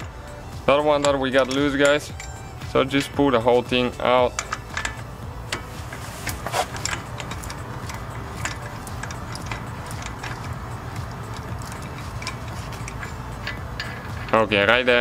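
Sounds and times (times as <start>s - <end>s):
hand ratchet clicking: 0.0s - 15.0s.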